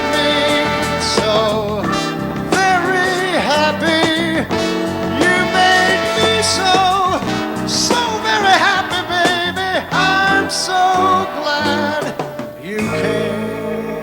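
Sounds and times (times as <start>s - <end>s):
horns: 0.0s - 14.0s
man singing: 0.0s - 14.0s
rhythm section: 0.0s - 14.0s.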